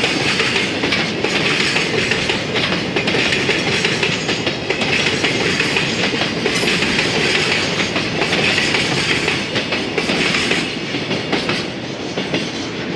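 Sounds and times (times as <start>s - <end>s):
freight train wheels rattling on rails: 0.0s - 12.9s.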